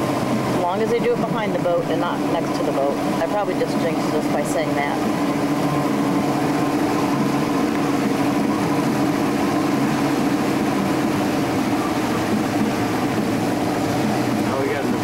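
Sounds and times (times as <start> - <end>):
outboard motor running: 0.0 - 15.0
rush of wind and water: 0.0 - 15.0.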